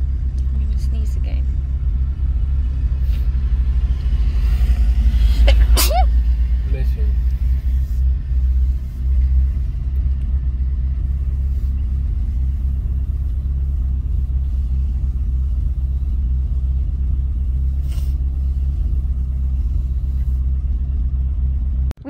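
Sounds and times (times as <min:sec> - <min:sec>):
pickup truck engine rumble: 0:00.0 - 0:22.0.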